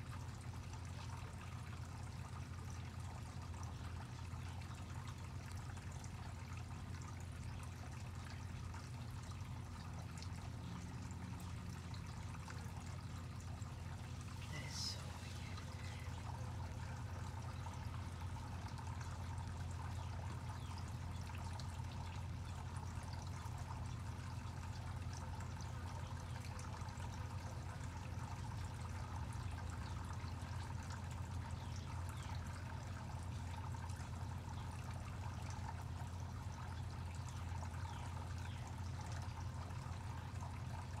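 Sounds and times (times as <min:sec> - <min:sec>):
running water trickling: 0:00.0 - 0:41.0.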